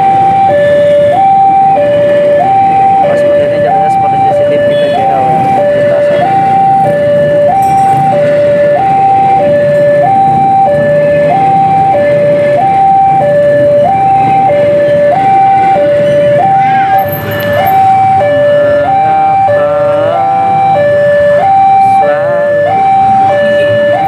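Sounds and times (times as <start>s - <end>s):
level crossing two-tone alarm: 0.0s - 24.0s.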